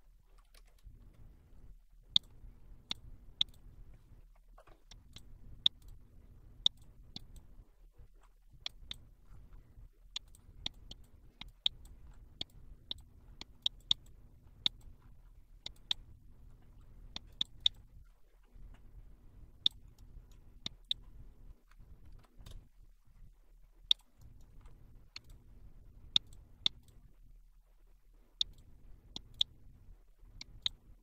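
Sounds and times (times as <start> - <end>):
faint low hum: 0.0 - 31.0
mouse buttons clicking: 0.5 - 27.3, 28.2 - 31.0.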